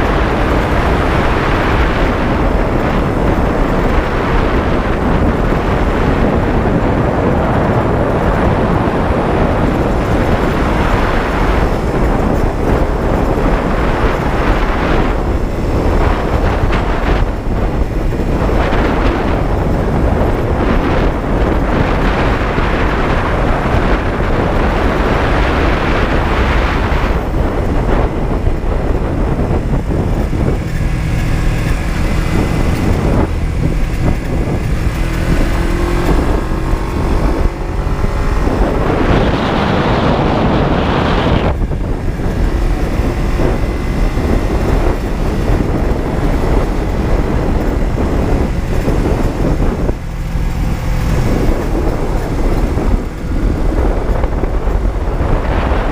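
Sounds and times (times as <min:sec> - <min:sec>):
motorcycle engine running: 0:00.0 - 0:55.9
wind rush over microphone: 0:00.0 - 0:55.9.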